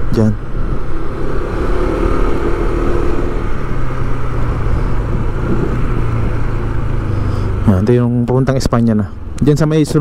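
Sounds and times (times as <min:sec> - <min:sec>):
street traffic: 0:00.0 - 0:10.0
vehicle engine running: 0:00.0 - 0:10.0.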